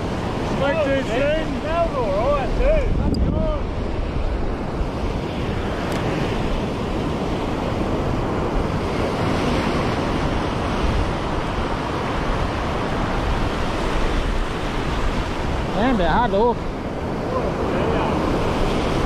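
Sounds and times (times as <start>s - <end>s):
small waves breaking: 0.0s - 19.0s
wind buffeting microphone: 0.0s - 19.0s.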